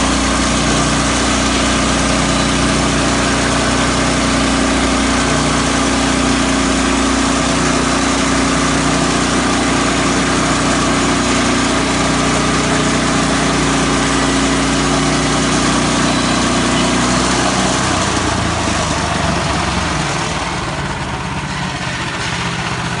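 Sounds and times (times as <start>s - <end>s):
sawmill machine hum: 0.0s - 23.0s.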